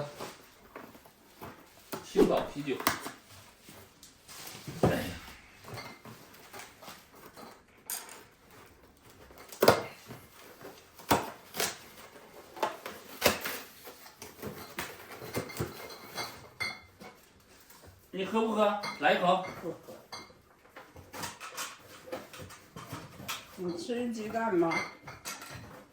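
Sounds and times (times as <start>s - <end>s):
dishes and utensils clinking: 4.4s - 18.0s, 18.6s - 25.9s.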